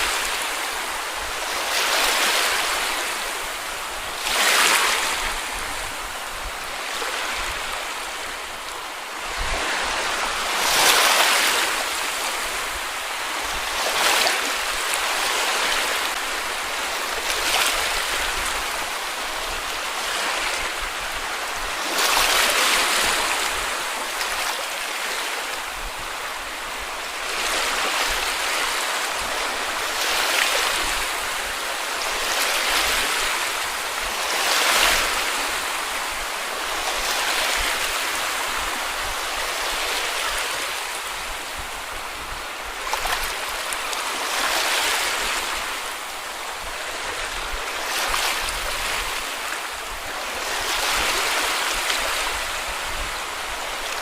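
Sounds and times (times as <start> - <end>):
sea waves lapping on a beach: 0.0 - 54.0.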